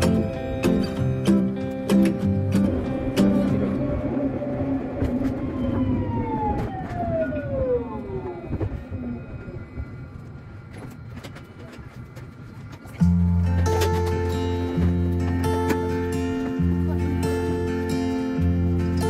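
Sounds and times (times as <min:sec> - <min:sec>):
rail clicks: 0:00.0 - 0:19.0
tram drive whine: 0:00.0 - 0:19.0
tram rumbling on rails: 0:00.0 - 0:19.0.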